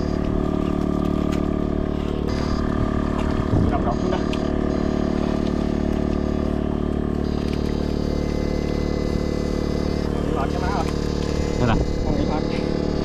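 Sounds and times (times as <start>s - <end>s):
machine droning: 0.0s - 13.0s.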